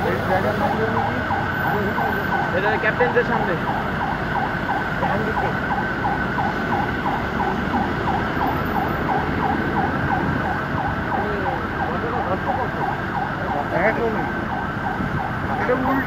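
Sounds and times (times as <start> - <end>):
electronic siren: 0.0 - 16.0.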